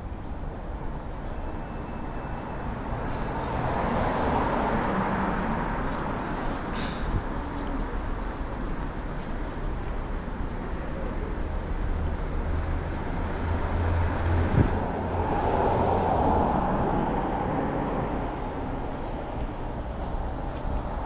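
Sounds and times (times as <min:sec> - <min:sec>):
passing traffic rush: 0:00.0 - 0:21.0.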